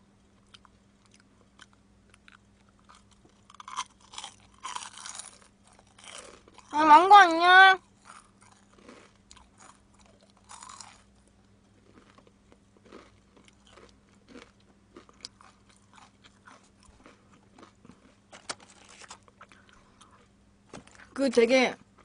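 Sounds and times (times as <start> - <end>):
person chewing food: 0.2 - 6.8, 7.8 - 21.1.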